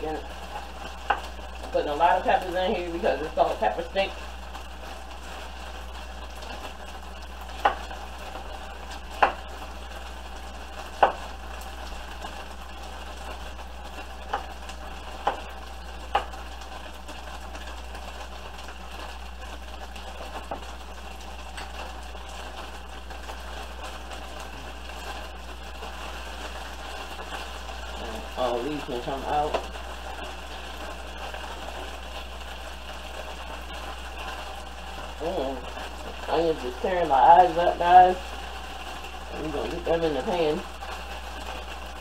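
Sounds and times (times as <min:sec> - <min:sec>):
beef sizzling in a pan: 0:00.0 - 0:42.0.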